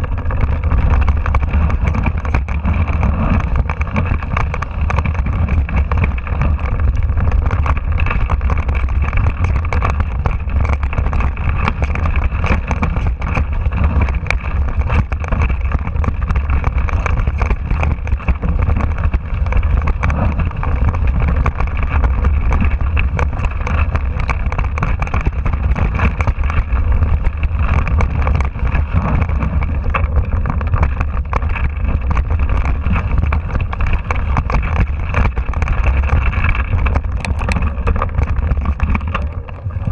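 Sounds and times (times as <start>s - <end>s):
bike rattling over ground: 0.0s - 39.9s
wind on microphone: 0.0s - 39.9s.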